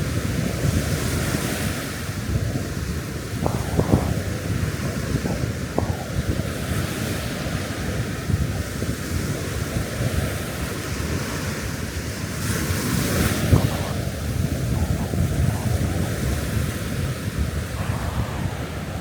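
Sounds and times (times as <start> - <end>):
surf breaking on beach: 0.0 - 19.0
wind buffeting microphone: 0.0 - 19.0
wave washing up: 0.2 - 19.0.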